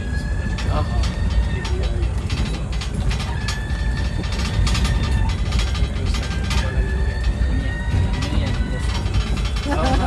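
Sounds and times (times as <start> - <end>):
low road rumble: 0.0 - 10.0
loose fittings rattling: 0.3 - 10.0.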